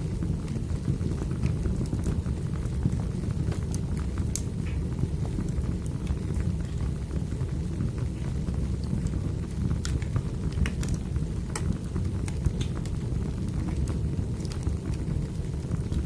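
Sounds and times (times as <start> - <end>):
firewood crackling and popping: 0.0 - 16.0
low rumble of flame: 0.0 - 16.0.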